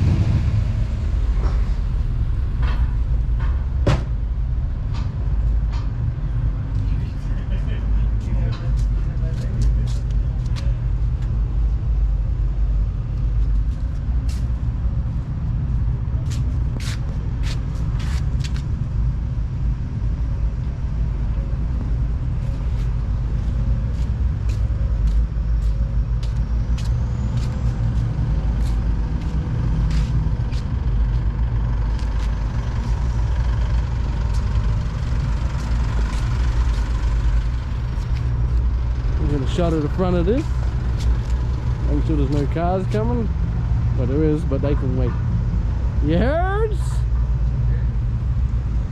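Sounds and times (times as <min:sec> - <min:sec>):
car engines rumbling past: 0:00.0 - 0:48.9.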